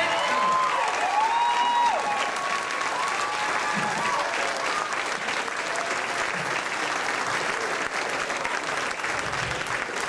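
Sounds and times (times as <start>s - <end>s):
audience clapping: 0.0s - 10.0s
cheering: 0.0s - 10.0s.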